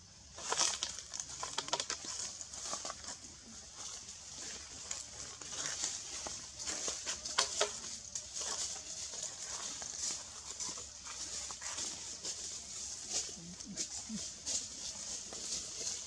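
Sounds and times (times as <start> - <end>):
leaves and twigs crackling: 0.2 - 16.0.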